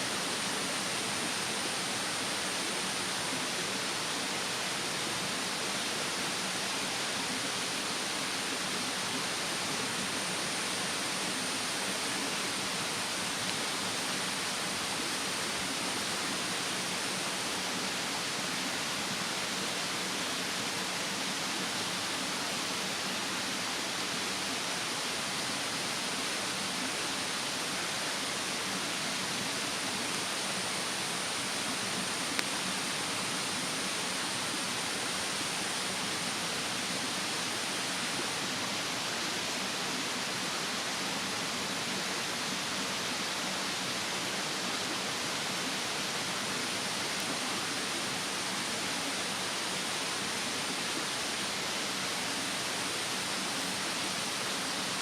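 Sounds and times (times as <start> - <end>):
rushing mountain stream: 0.0 - 55.0.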